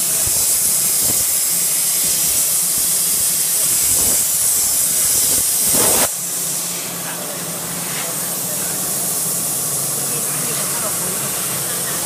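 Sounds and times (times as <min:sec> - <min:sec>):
plasma cutter hissing: 0:00.0 - 0:12.0.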